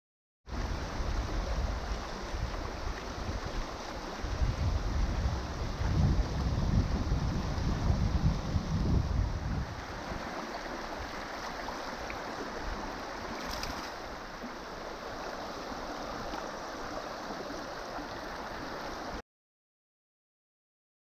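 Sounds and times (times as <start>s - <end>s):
river flowing over stones: 0.5s - 19.2s.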